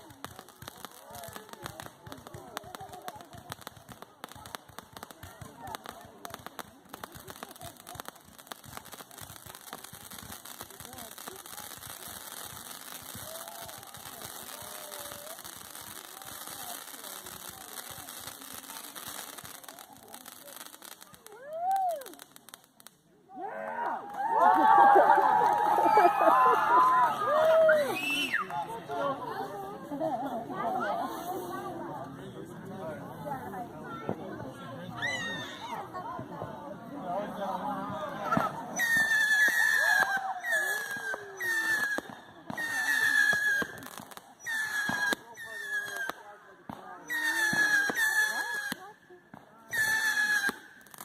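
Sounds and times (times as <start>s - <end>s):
fireworks crackling: 0.0s - 23.3s, 24.0s - 51.0s.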